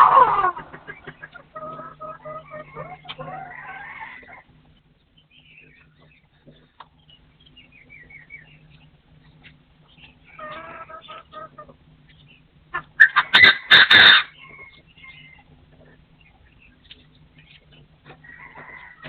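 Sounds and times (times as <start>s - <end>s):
partridge calling: 0.0s - 18.9s.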